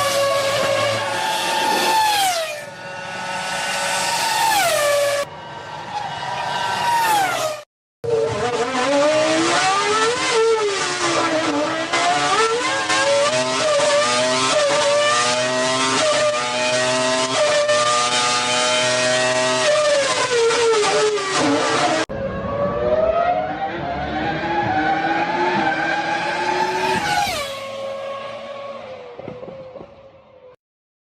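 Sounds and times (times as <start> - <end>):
racing engine at high revs: 0.0 - 30.0.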